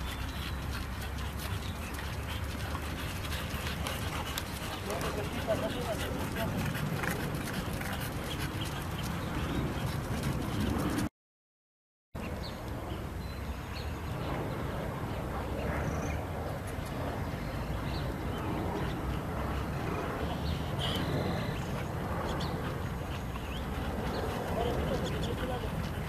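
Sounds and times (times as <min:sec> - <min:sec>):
dogs breathing heavily: 0:00.0 - 0:11.1, 0:14.2 - 0:26.0.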